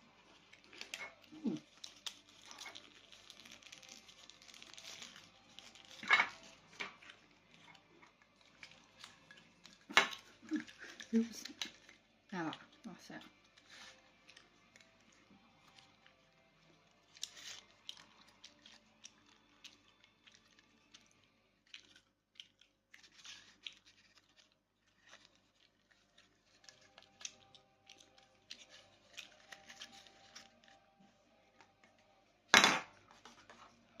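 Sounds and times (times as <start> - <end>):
plastic toys and packaging rustling: 0.0 - 34.0.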